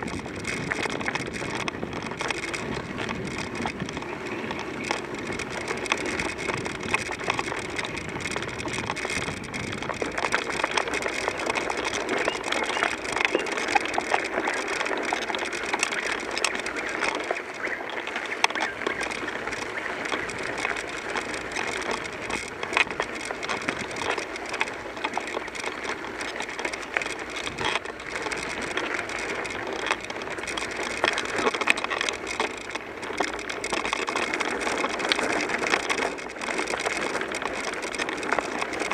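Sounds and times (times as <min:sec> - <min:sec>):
bicycle tyre noise: 0:00.0 - 0:38.9
bike clicks and rattles: 0:00.0 - 0:38.9.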